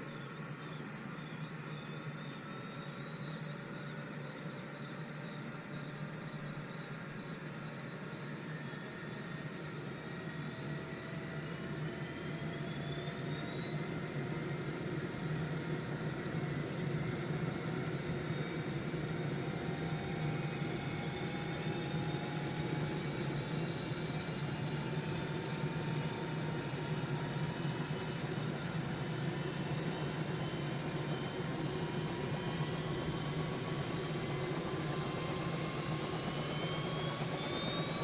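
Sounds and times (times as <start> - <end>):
engine hum with rising whine: 0.0 - 38.0.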